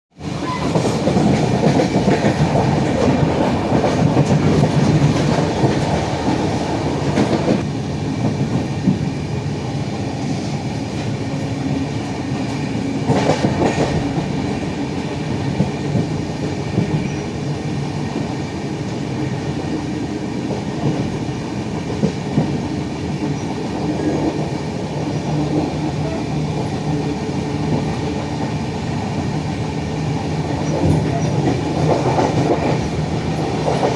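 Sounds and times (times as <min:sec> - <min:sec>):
train rumbling on track: 0:00.1 - 0:33.9
train wheel clatter: 0:00.3 - 0:09.1, 0:10.3 - 0:18.4, 0:19.5 - 0:33.9.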